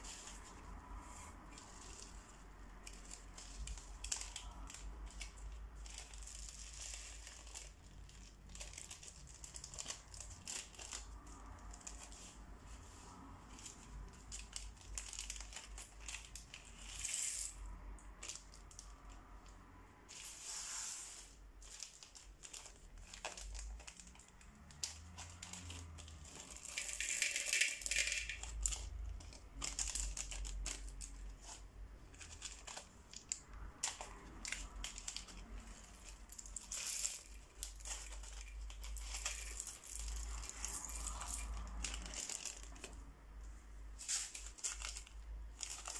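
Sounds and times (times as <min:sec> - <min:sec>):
plastic bags crinkling: 0:00.0 - 0:20.5, 0:21.2 - 0:43.2, 0:43.9 - 0:45.9.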